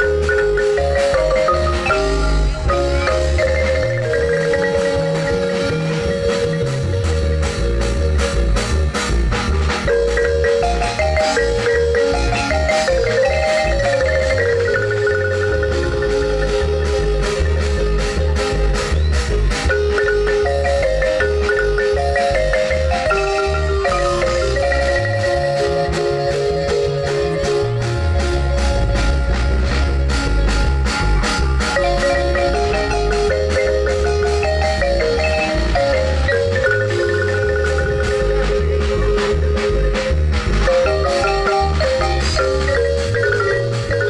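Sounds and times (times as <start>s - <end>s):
marimba ensemble playing: 0.0s - 44.0s.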